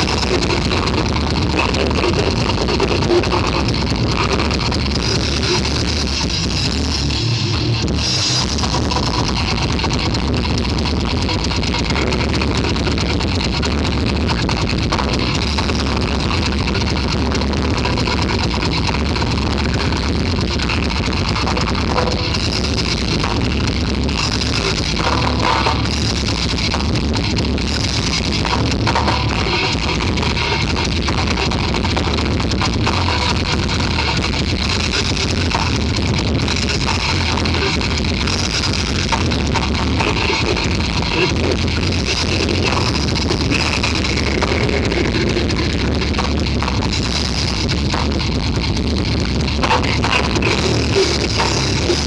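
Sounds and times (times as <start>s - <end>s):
harsh distorted noise music: 0.0s - 52.0s
low rumbling drone: 0.0s - 52.0s.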